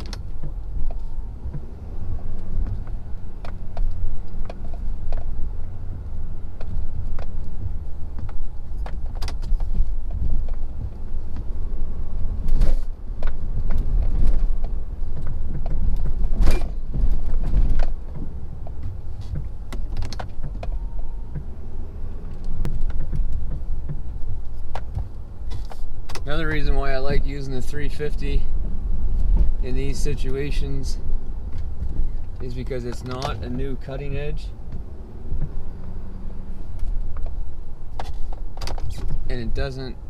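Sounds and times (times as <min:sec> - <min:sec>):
diesel truck engine rumbling: 0:00.0 - 0:40.0.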